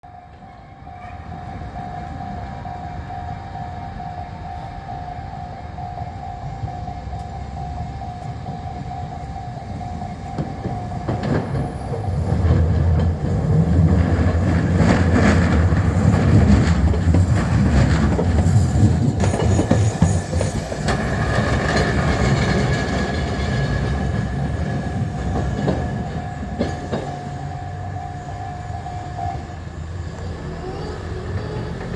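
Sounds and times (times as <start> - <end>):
crossing warning bell: 0.0 - 31.9
tram wheels clacking on rails: 0.1 - 31.9.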